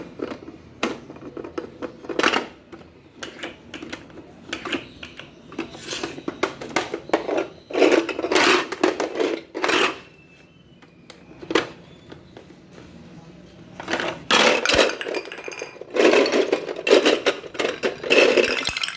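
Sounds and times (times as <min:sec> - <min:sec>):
plastic toys clicking and clattering: 0:00.0 - 0:12.6, 0:13.6 - 0:18.9.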